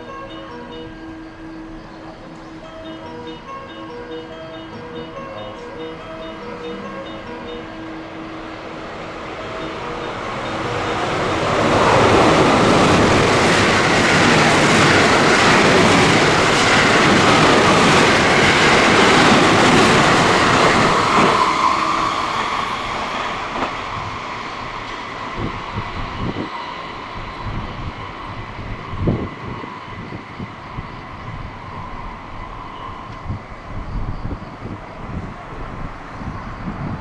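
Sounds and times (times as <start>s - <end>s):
train wheels rushing on rails: 6.0s - 37.0s.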